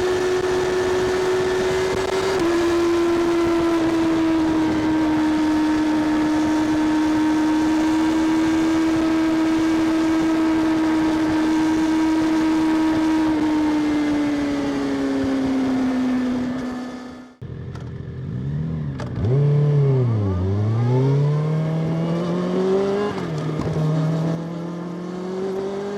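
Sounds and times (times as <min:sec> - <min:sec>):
motorcycle engine at high revs: 0:00.0 - 0:25.9.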